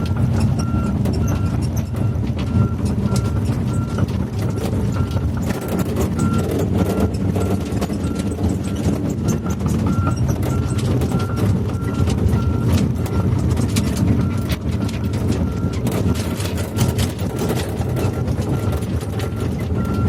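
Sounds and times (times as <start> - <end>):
excavator diesel engine running: 0.0 - 20.0
metallic clanks and rattles: 0.0 - 20.0.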